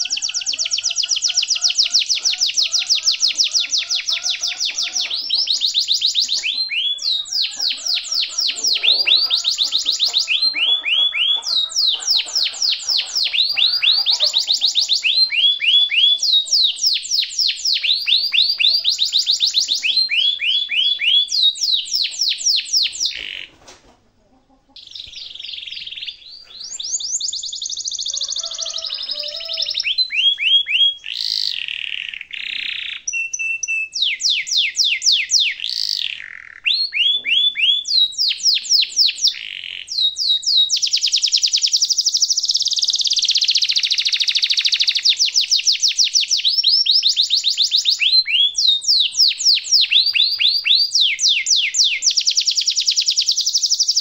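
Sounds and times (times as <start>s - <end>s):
canary singing: 0.0s - 23.6s, 24.3s - 54.0s.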